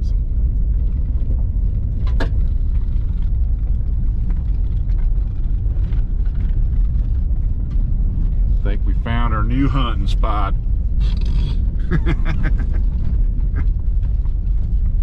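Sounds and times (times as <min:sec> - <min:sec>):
engine and tyres rumbling: 0:00.0 - 0:15.0.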